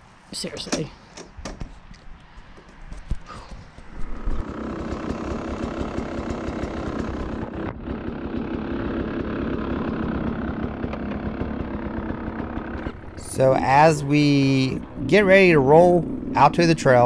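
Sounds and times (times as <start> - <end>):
dirt bike engine at low revs: 3.2 - 17.0.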